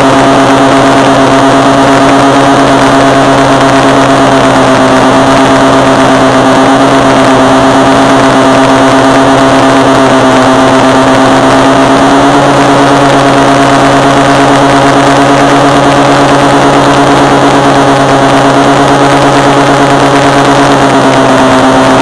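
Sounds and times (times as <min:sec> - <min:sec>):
helicopter rotor whine: 0:00.0 - 0:22.0.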